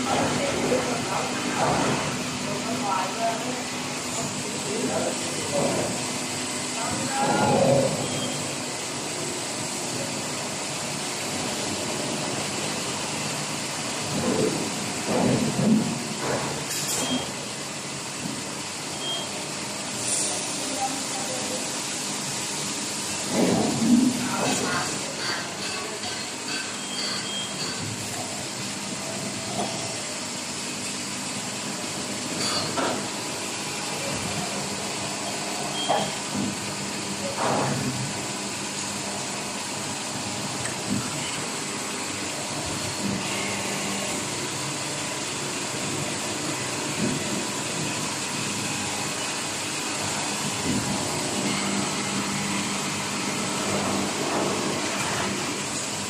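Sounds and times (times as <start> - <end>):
machines running with steady hiss: 0.0 - 56.0.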